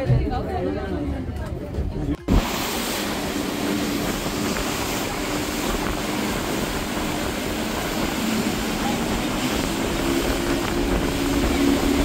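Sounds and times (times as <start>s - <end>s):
rush of wind and water: 2.2s - 12.0s
speedboat engine drone: 2.3s - 12.0s.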